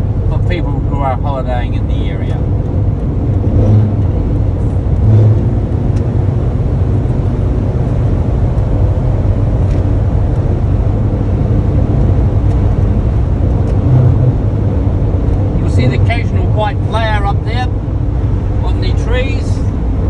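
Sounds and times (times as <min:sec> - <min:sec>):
van engine and tyre rumble: 0:00.0 - 0:20.0.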